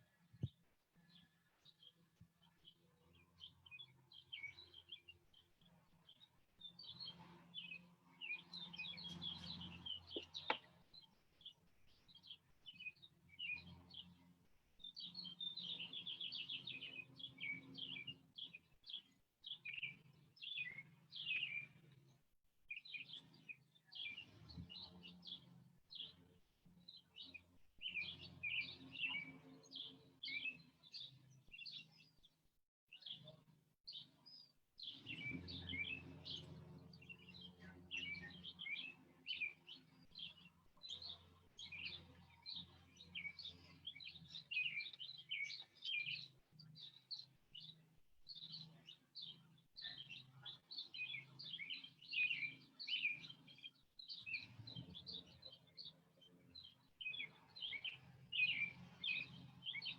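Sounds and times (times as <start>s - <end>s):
small birds chirping: 0.0s - 22.0s, 22.7s - 59.9s.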